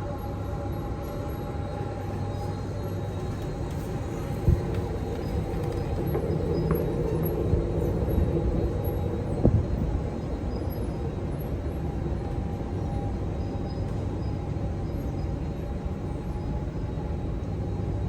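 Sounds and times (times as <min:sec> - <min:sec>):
low rumble of metro station: 0:00.0 - 0:18.0.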